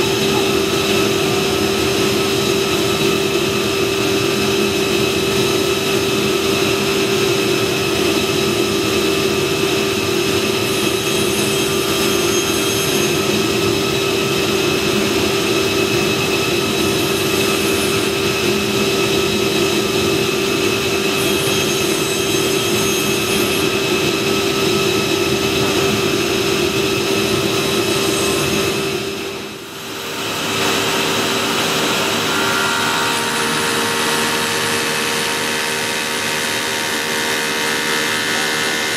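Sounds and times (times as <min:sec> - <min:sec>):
woodworking machinery droning: 0:00.0 - 0:38.9.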